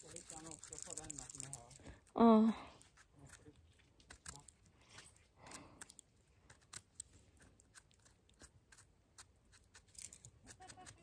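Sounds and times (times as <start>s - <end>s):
knife scraping mushroom stem: 0.0s - 1.8s, 2.8s - 11.0s.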